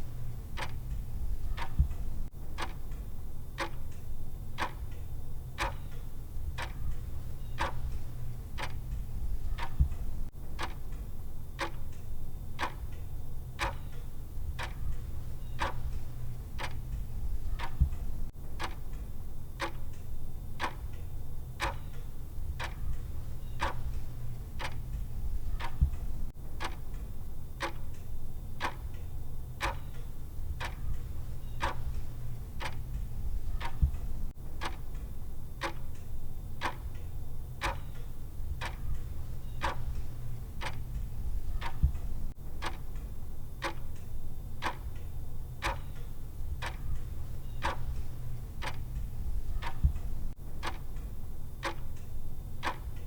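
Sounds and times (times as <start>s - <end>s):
timer ticking: 0.0s - 13.0s, 13.6s - 53.0s
steady low hum: 0.0s - 53.0s.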